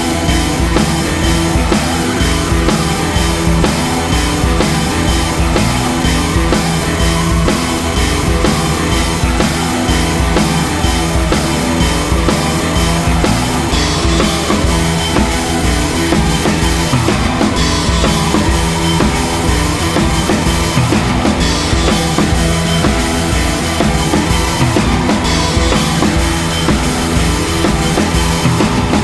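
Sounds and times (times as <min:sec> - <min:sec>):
rock music with drums and guitars: 0:00.0 - 0:29.0.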